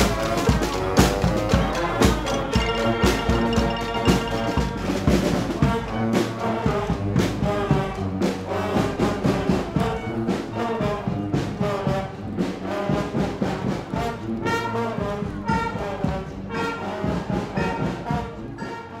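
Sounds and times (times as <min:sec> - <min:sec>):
brass band playing: 0:00.0 - 0:19.0
percussion strikes: 0:00.0 - 0:19.0
trombone: 0:00.0 - 0:19.0.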